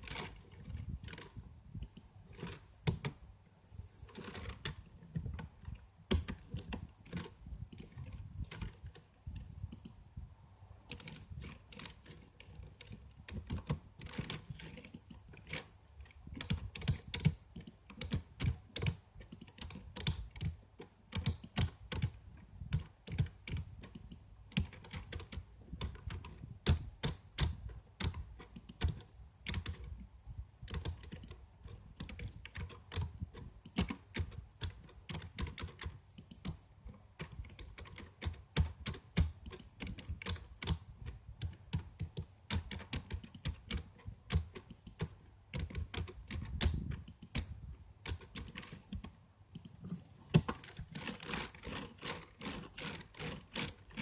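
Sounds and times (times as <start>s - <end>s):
typing on computer keyboard: 0.0s - 3.2s, 4.2s - 10.0s, 10.9s - 54.0s.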